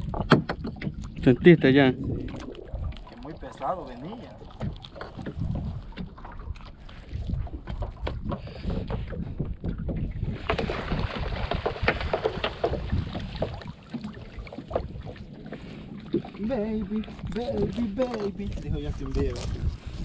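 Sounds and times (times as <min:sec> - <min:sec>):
water splashing: 0:00.0 - 0:08.8, 0:10.2 - 0:19.7
wind buffeting microphone: 0:00.0 - 0:20.0.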